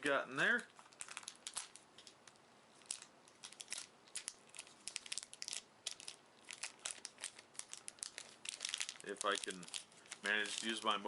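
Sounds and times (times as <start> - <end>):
wrapper crinkling: 0.4 - 11.0.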